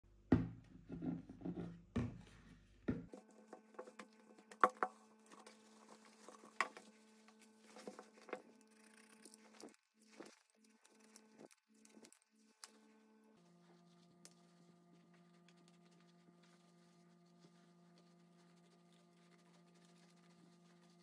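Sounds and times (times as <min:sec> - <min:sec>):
faint steady hum: 0:02.2 - 0:21.0.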